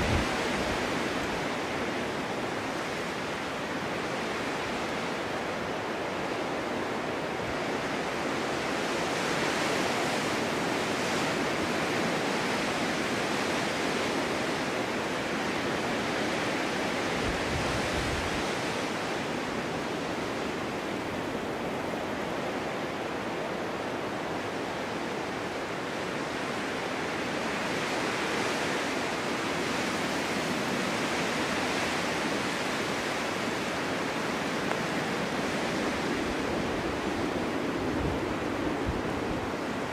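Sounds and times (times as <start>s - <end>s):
snowstorm wind blowing: 0.0s - 39.9s.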